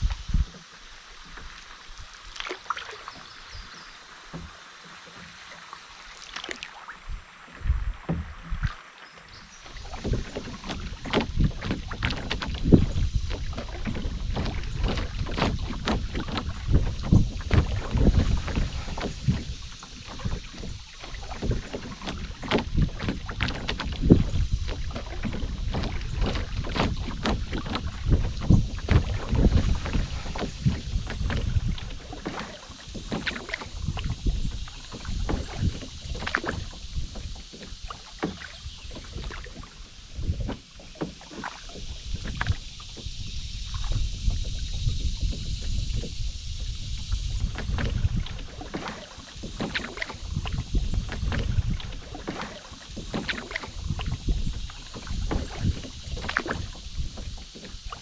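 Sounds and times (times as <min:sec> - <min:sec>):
wind rumble on microphone: 0:00.0 - 0:02.5, 0:07.0 - 0:58.0
small knocks on a canoe: 0:00.0 - 0:58.0
water lapping around a canoe hull: 0:00.0 - 0:58.0.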